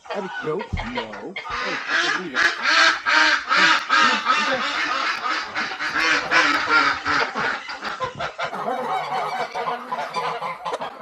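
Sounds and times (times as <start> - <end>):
ducks quacking: 0.0 - 11.0
geese honking: 0.0 - 11.0.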